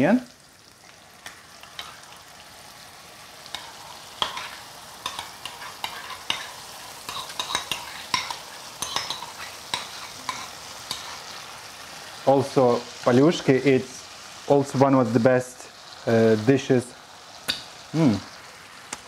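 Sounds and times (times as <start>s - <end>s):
bacon and onion sizzling in pan: 0.0s - 19.0s.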